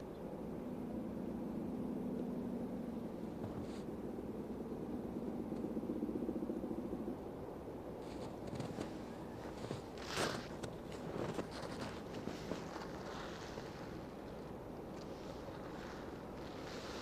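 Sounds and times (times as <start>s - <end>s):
locomotive engine humming: 0.0s - 17.0s.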